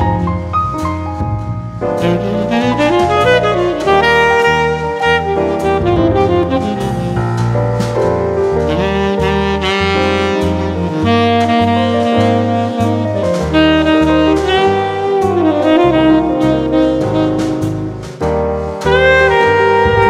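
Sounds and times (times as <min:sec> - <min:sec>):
bass line: 0:00.0 - 0:20.0
saxophone lead: 0:01.8 - 0:20.0.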